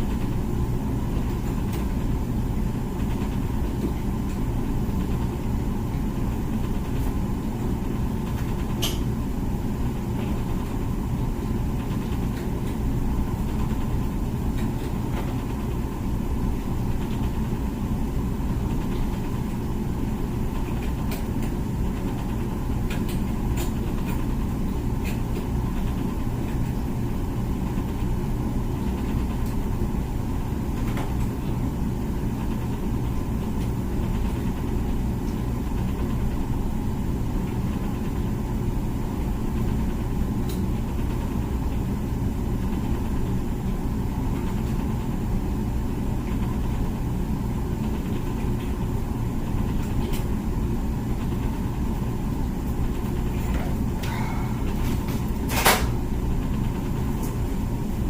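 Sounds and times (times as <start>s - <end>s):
dishwasher humming: 0.0s - 58.0s.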